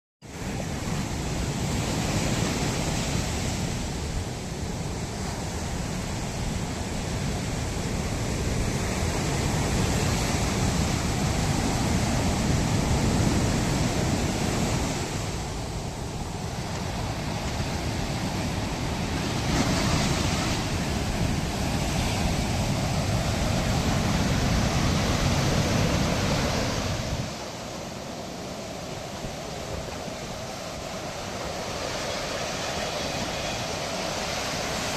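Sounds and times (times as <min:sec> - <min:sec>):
surf washing onto beach: 0:00.3 - 0:34.9.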